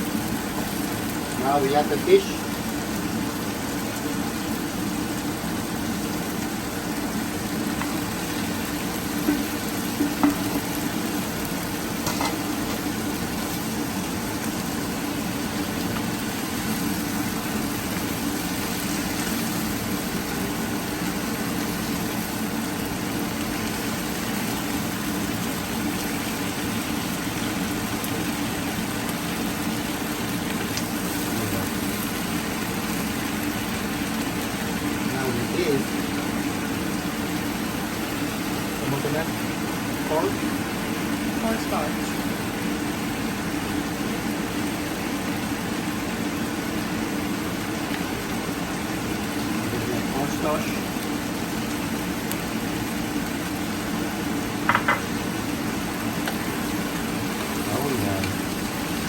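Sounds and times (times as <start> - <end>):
fish sizzling in a pan: 0.0 - 59.0.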